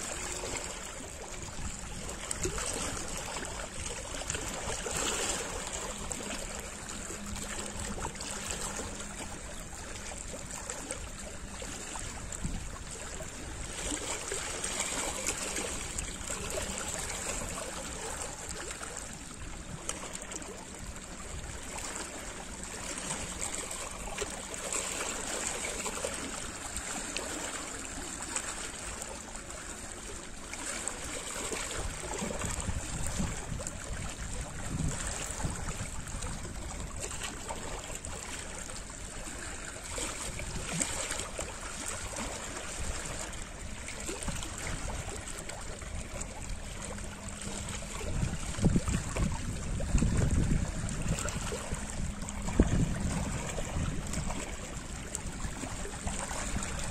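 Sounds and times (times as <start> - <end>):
lake waves lapping against rocks: 0.0 - 56.9.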